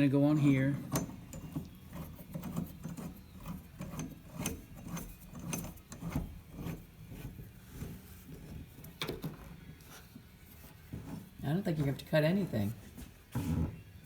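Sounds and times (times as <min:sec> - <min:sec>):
plumbing parts clicking and rubbing: 0:00.0 - 0:14.0.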